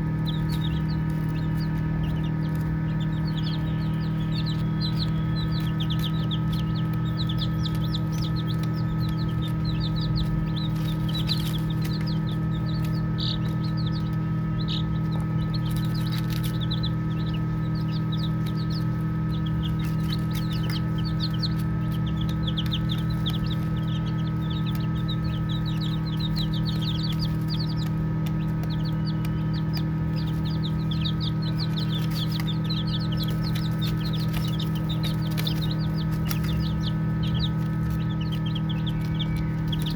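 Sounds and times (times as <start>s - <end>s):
baby chicks peeping: 0.0s - 39.9s
steady low hum: 0.0s - 39.9s.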